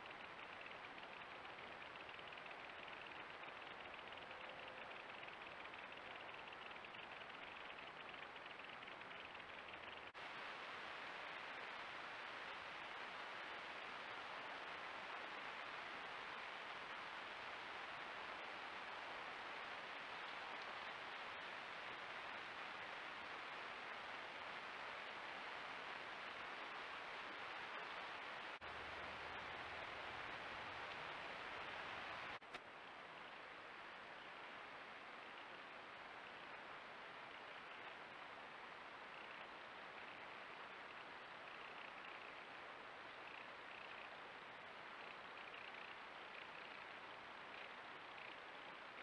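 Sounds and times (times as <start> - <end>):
microphone hiss: 0.0 - 49.0.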